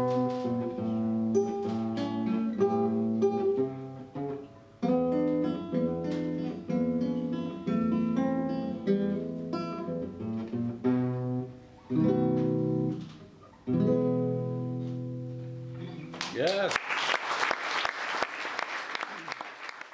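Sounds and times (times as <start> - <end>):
classical guitar fingerpicked: 0.0 - 16.2.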